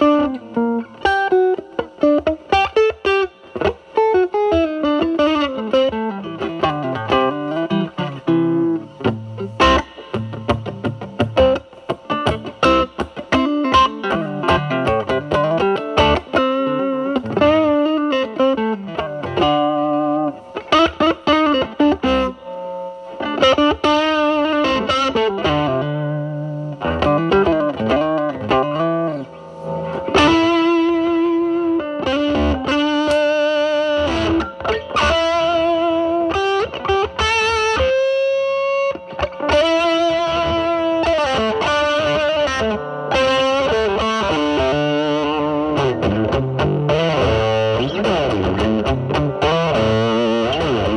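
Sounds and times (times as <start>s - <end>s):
fuzz electric guitar lead line: 0.0s - 50.9s.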